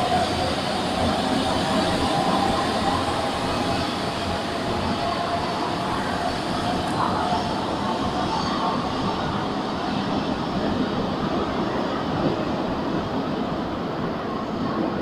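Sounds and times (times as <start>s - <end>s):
train rumbling in tunnel: 0.0s - 15.0s.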